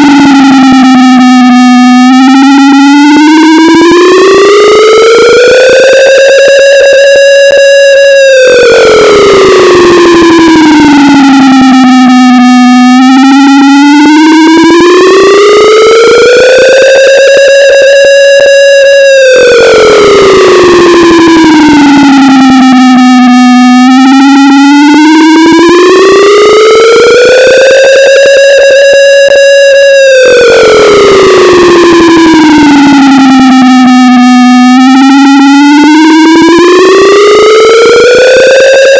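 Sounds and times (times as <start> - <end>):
distorted air raid siren wailing: 0.0 - 38.9.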